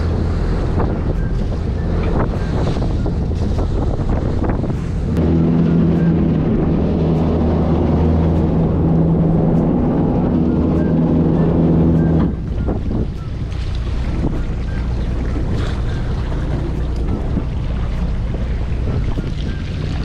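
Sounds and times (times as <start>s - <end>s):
low mechanical hum: 0.0s - 20.0s
wind buffeting microphone: 0.0s - 20.0s.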